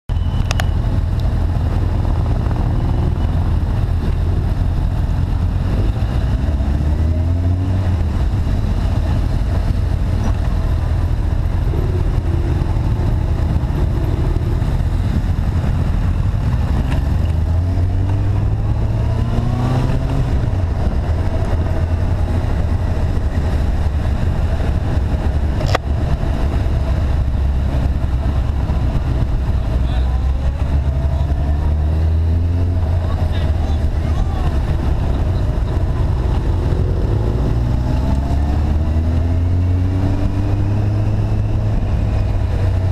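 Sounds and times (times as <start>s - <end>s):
low wind rumble: 0.0s - 42.9s
vehicle engine accelerating: 0.1s - 42.9s.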